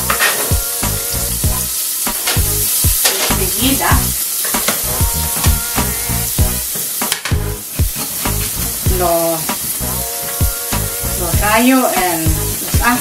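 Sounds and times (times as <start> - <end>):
background music: 0.0 - 13.0
onion sizzling in oil: 0.0 - 13.0.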